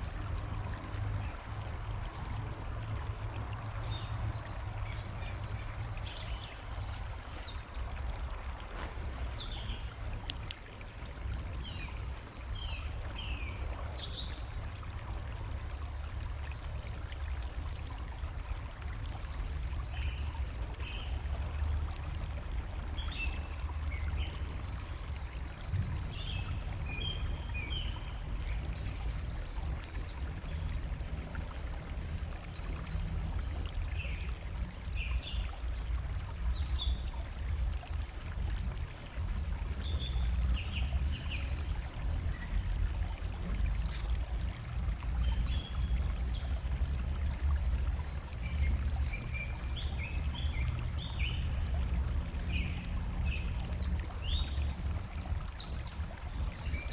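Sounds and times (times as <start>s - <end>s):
flowing water: 0.0s - 56.9s
small songbirds chirping: 0.0s - 56.9s.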